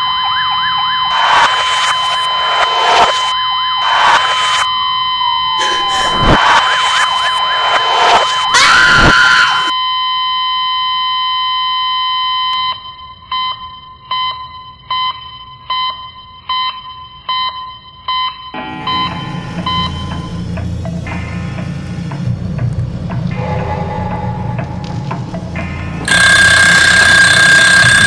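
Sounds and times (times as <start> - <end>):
electronic alarm tone: 0.0 - 20.6, 23.4 - 28.0.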